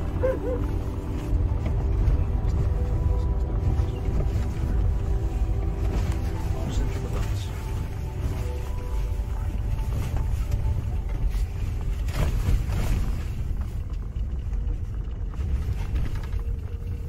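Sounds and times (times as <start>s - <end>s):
off-road vehicle engine rumble: 0.0s - 17.0s.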